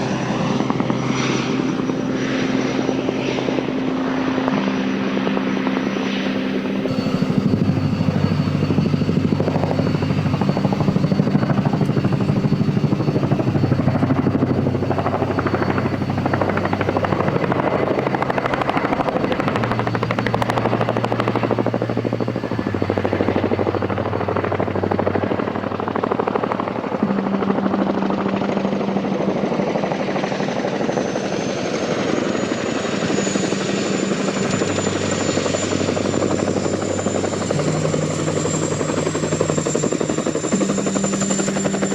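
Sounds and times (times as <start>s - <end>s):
helicopter rotors and engines running: 0.0s - 41.9s
high turbine whine: 0.0s - 41.9s.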